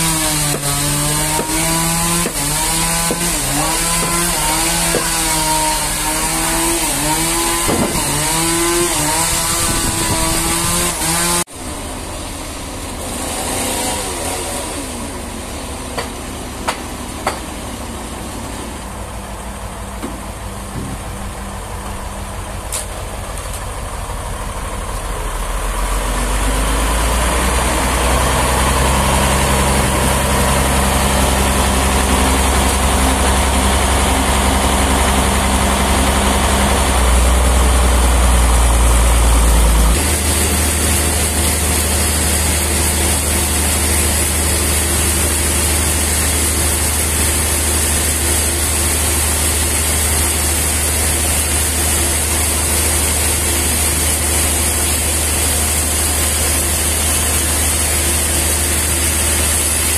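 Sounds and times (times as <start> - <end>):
stationary engine humming: 0.0 - 59.9.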